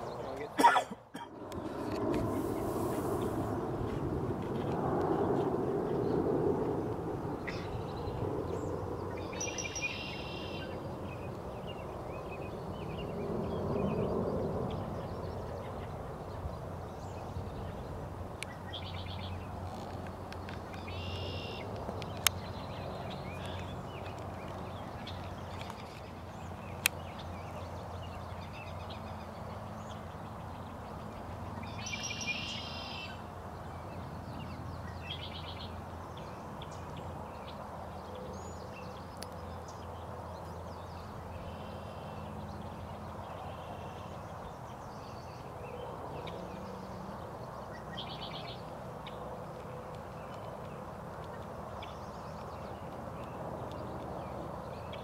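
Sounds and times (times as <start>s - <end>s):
birds chirping: 0.0s - 3.5s, 7.4s - 55.0s
low outdoor rush: 0.0s - 55.0s.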